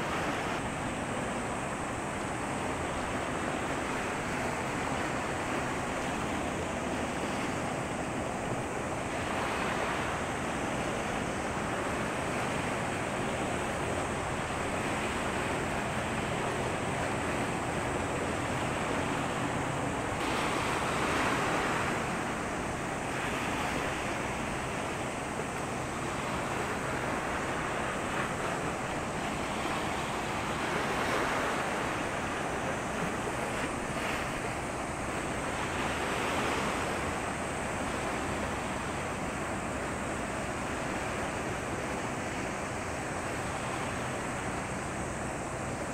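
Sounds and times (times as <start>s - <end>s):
seawater washing against shore: 0.0s - 45.9s.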